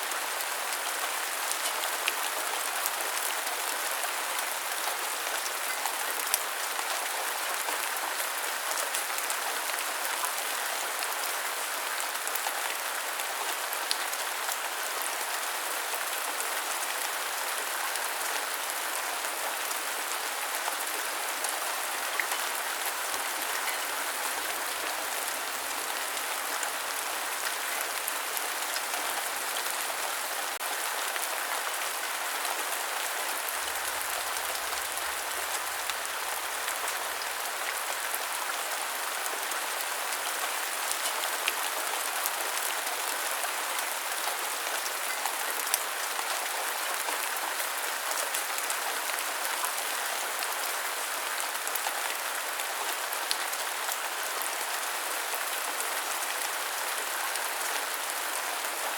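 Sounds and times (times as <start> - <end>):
rain pattering on surfaces: 0.0 - 58.9.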